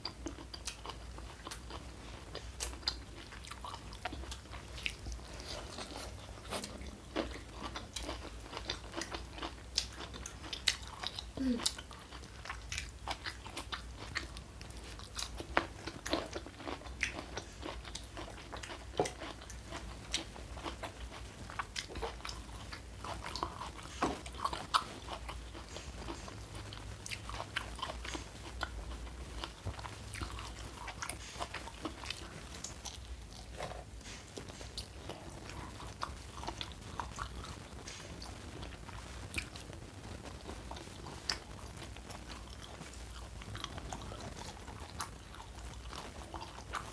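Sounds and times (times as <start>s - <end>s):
crunchy chewing: 0.0s - 46.9s
low steady hum: 0.0s - 46.9s.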